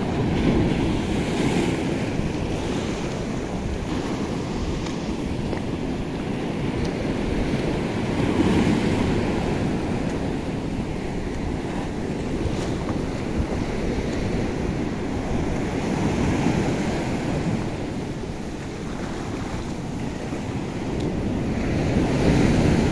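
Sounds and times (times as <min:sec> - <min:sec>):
surf washing over sand: 0:00.0 - 0:22.9
wind buffeting microphone: 0:00.0 - 0:22.9.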